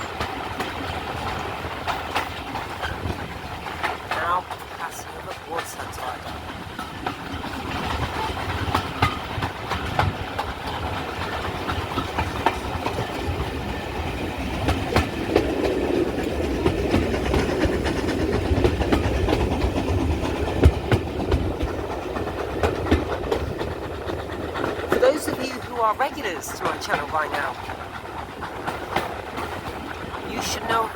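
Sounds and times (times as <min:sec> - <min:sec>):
train wheels rumbling: 0:00.0 - 0:30.9
wheels clicking over rail joints: 0:00.0 - 0:30.9.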